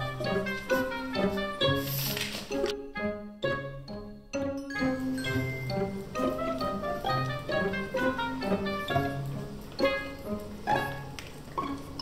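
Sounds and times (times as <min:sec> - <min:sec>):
light instrumental tune: 0:00.0 - 0:12.0.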